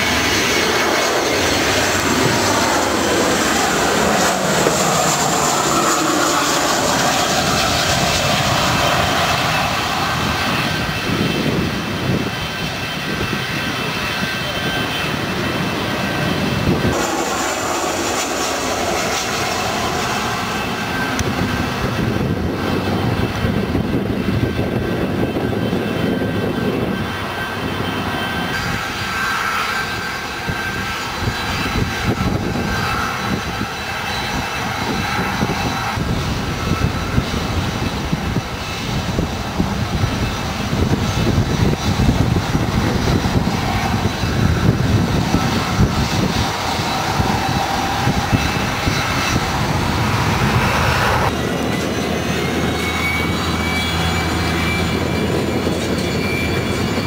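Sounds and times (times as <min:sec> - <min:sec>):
jet engines passing close by: 0:00.0 - 0:57.0.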